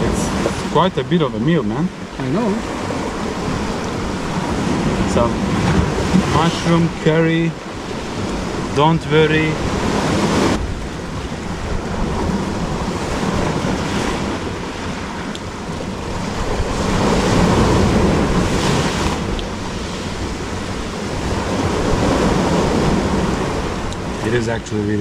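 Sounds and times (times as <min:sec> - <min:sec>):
sea surf washing on shore: 0:00.0 - 0:25.0
wind buffeting microphone: 0:00.0 - 0:25.0.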